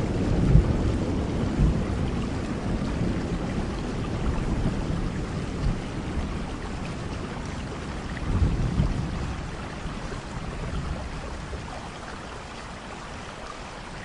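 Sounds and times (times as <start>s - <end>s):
thunder rumbling: 0.0s - 11.8s
steady rain: 0.0s - 14.0s.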